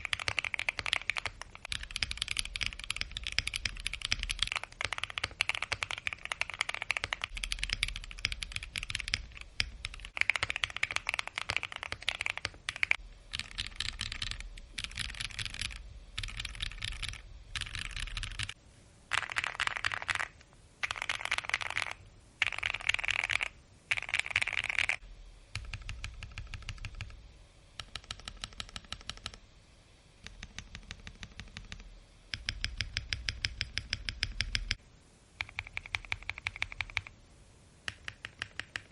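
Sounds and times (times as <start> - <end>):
mechanical keyboard typing: 0.0 - 27.2, 27.8 - 29.4, 30.2 - 34.8, 35.4 - 37.1, 37.9 - 38.9.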